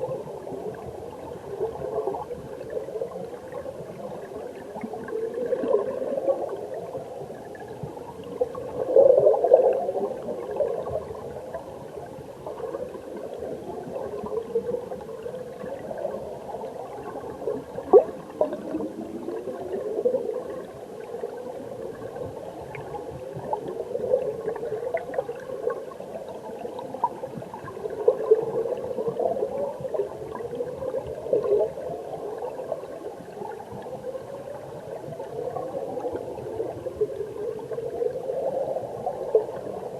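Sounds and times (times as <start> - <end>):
underwater stream gurgling: 0.0 - 39.9.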